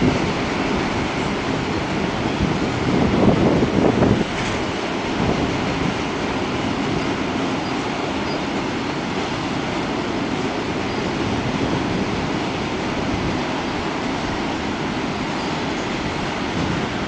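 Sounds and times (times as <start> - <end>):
freight wagon wheels on rails: 0.0 - 17.0.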